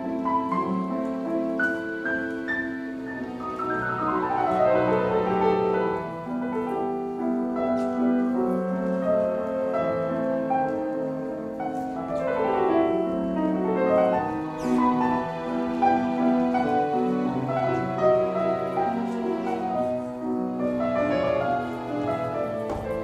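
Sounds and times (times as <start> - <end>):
romantic classical piano music: 0.0 - 23.0.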